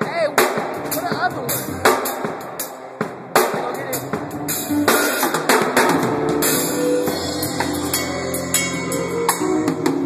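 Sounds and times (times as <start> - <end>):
drum and cymbal hits: 0.0 - 10.0.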